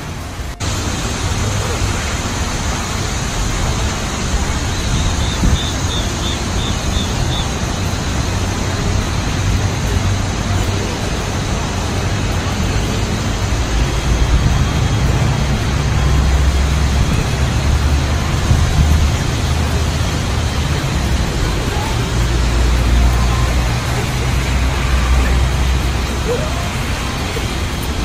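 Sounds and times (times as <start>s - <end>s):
outdoor rushing noise with rumble: 0.0s - 28.0s.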